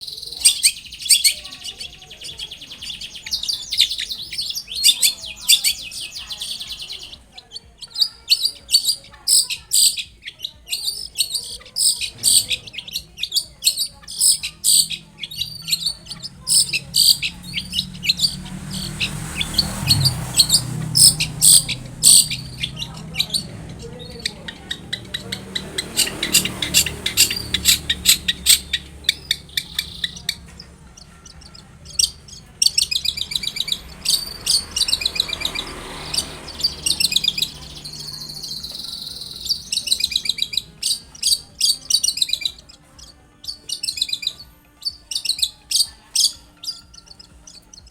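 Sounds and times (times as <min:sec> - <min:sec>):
bird singing chattering notes: 0:00.0 - 0:47.9.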